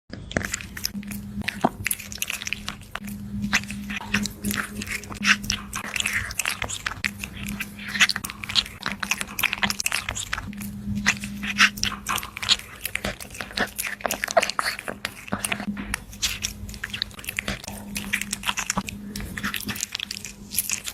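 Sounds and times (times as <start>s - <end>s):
kitten chewing and crunching food: 0.1s - 20.9s.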